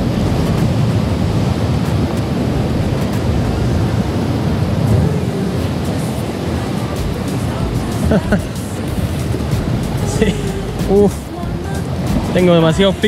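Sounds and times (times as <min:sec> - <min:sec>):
sea surf on rocks: 0:00.0 - 0:13.0
wind buffeting microphone: 0:00.0 - 0:13.0.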